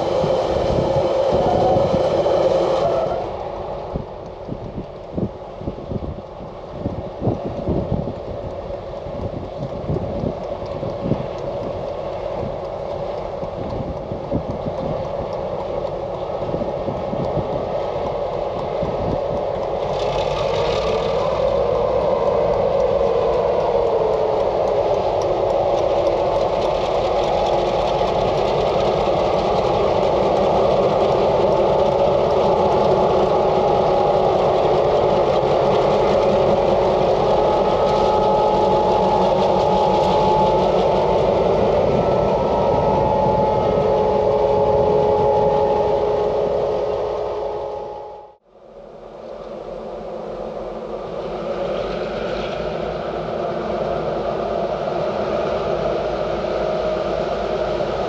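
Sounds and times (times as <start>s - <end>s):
train wheels clicking and knocking: 0.0s - 47.4s
diesel train engine: 0.0s - 58.0s.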